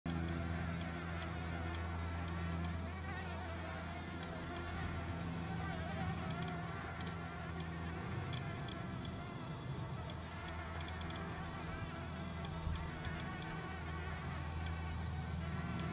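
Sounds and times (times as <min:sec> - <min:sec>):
bee buzzing in flight: 0:00.1 - 0:15.9.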